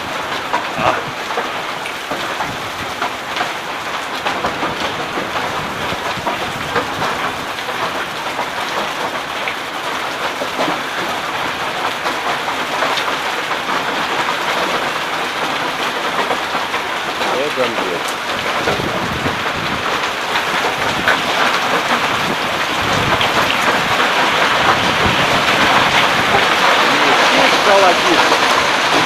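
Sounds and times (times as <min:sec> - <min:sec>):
hailstones ticking on surfaces: 0:00.0 - 0:29.0
heavy rain hissing: 0:00.0 - 0:29.0.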